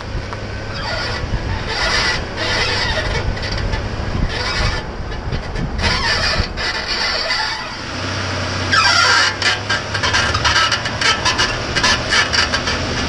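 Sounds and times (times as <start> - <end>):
low running hum: 0.0 - 13.0
high squeak from car: 0.7 - 13.0.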